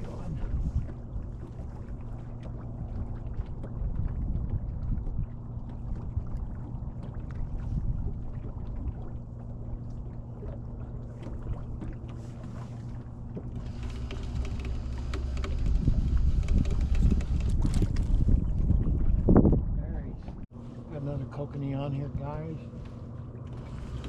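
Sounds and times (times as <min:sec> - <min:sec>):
boat motor humming: 0:00.0 - 0:24.0
deep rumble: 0:00.0 - 0:24.0.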